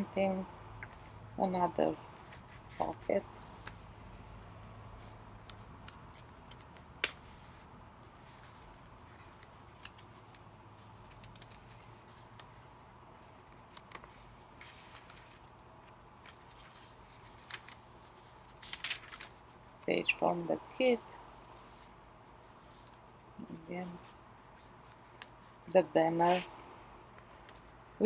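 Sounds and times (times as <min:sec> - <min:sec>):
paper rustling: 0:00.8 - 0:20.5, 0:21.5 - 0:25.7.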